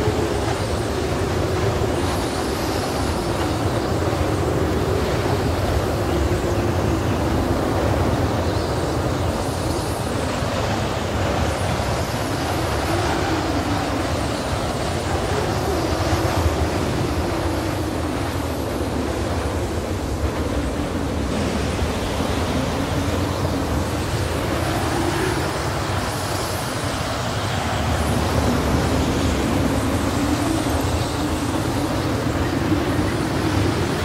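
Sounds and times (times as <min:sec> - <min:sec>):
blizzard wind howling: 0:00.0 - 0:34.0.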